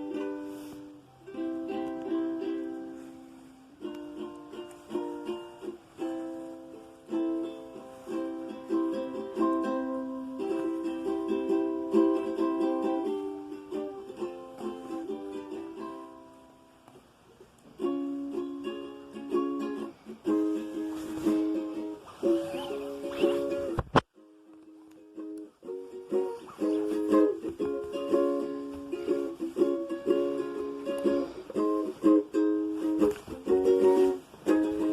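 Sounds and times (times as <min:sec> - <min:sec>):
acoustic guitar playing: 0:00.0 - 0:16.8, 0:17.7 - 0:34.9.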